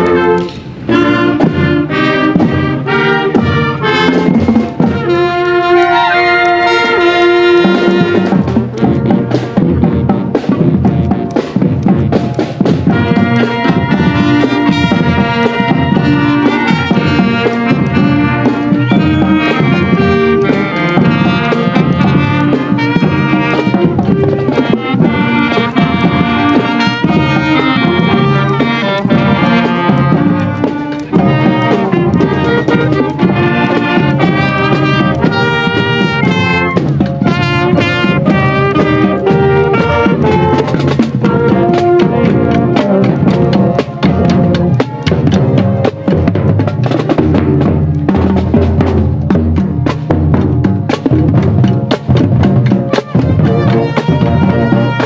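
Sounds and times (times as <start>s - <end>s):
brass and woodwinds melody: 0.0s - 55.0s
drumline beat: 0.0s - 55.0s.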